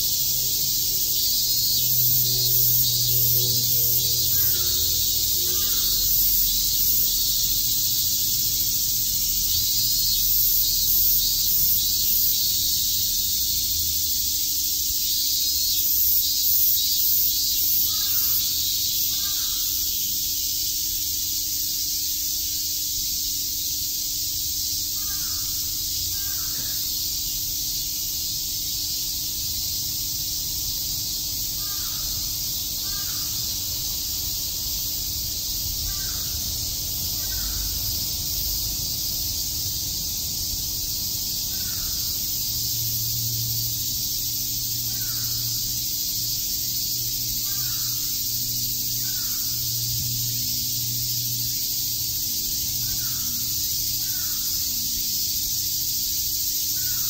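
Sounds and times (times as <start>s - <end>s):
rhythmic pulsing call: 0.0s - 21.8s, 30.9s - 57.0s
cicadas buzzing: 0.0s - 57.0s.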